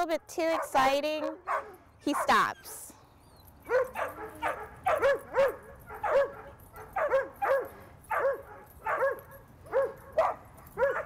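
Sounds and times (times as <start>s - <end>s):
dog barking: 0.5s - 2.4s, 3.7s - 11.0s.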